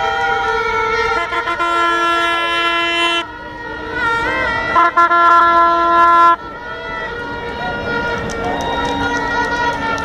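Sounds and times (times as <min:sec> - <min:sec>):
horns blowing long blasts: 0:00.0 - 0:10.0.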